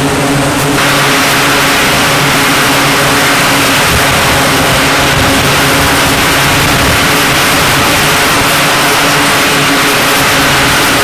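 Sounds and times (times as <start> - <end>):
aircraft engines running: 0.0 - 11.0.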